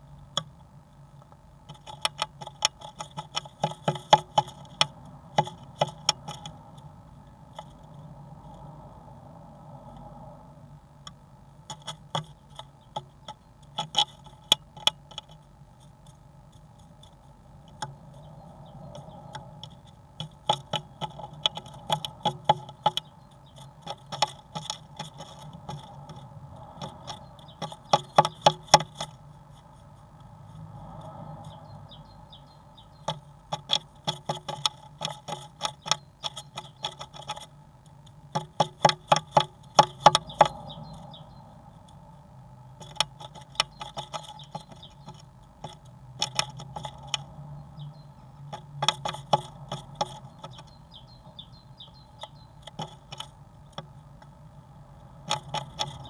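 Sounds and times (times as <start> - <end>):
steady low hum: 0.0 - 56.0
bird tapping on wood: 1.7 - 6.9, 7.5 - 8.0, 11.0 - 15.4, 17.7 - 29.8, 30.9 - 41.2, 42.8 - 54.3, 55.2 - 56.0.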